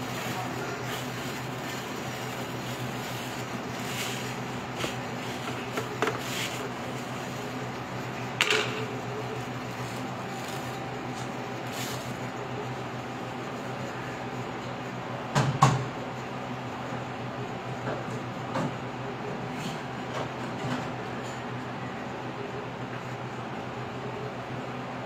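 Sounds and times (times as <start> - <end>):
cooling machinery humming: 0.0 - 25.0.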